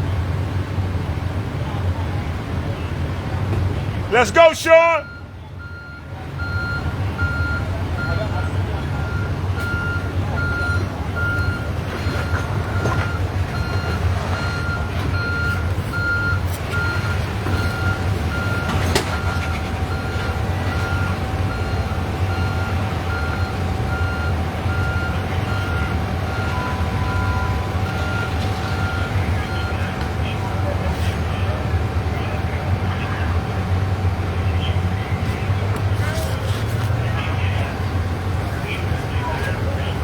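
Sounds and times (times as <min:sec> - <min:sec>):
low engine rumble: 0:00.0 - 0:40.0
truck backup alarm beeping: 0:02.6 - 0:35.8.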